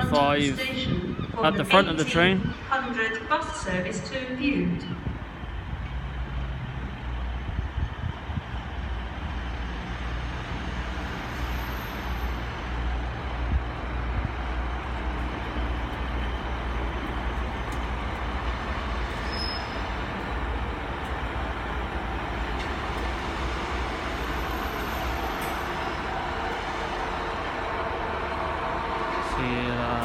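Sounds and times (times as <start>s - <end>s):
diesel engine hum: 0.0s - 30.0s.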